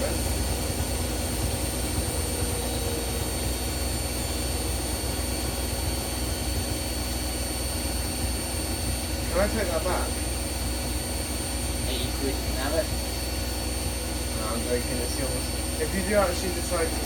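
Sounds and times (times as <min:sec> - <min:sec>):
washing machines spinning: 0:00.0 - 0:17.0.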